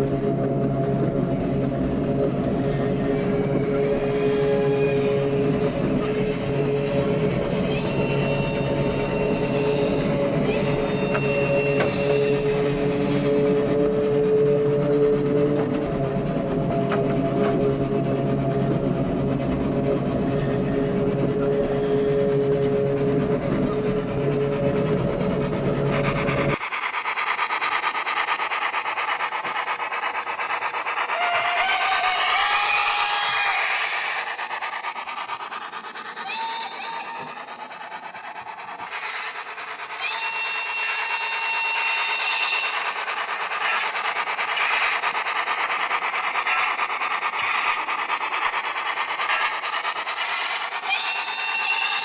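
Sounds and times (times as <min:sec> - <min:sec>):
model train hum: 0:00.0 - 0:52.0.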